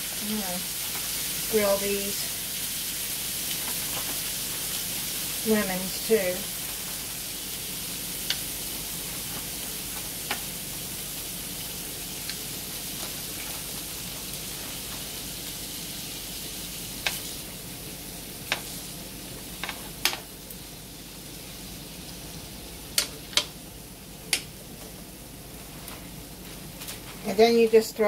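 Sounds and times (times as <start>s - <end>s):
chicken sizzling on a grill: 0.0s - 28.0s.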